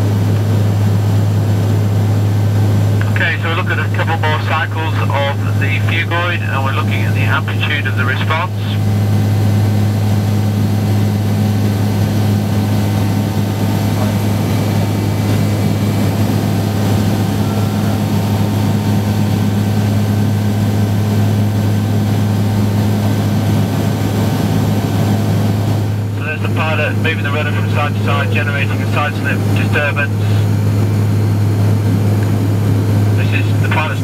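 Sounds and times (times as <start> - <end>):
higher engine tone: 0.0 - 34.0
propeller hum: 0.0 - 34.0.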